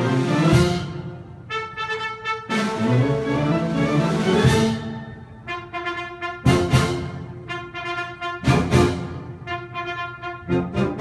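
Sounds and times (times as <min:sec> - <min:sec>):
orchestra with brass playing: 0:00.0 - 0:11.0.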